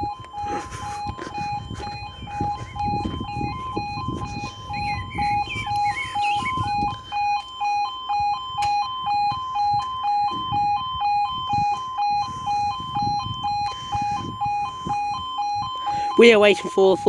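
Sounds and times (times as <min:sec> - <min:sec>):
two-note electronic warning alarm: 0:00.0 - 0:17.0.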